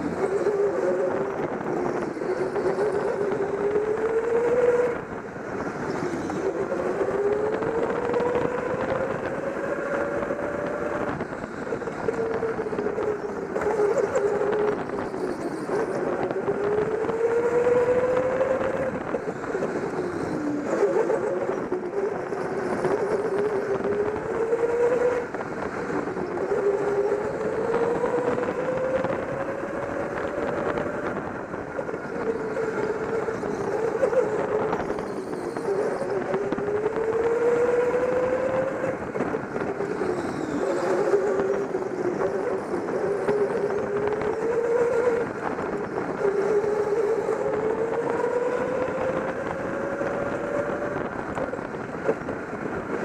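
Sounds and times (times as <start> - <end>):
go-kart motor: 0.0 - 53.0.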